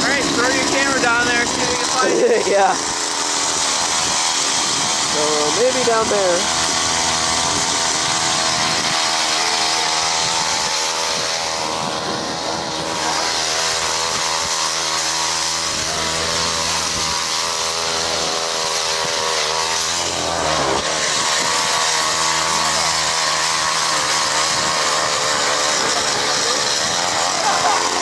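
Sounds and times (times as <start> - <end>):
ice auger engine drilling: 0.0 - 28.0.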